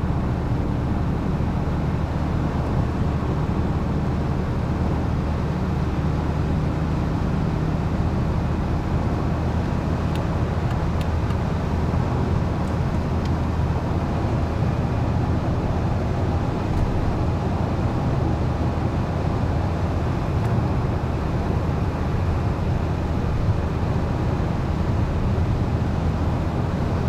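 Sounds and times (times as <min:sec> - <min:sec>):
car engine drone: 0:00.0 - 0:27.0.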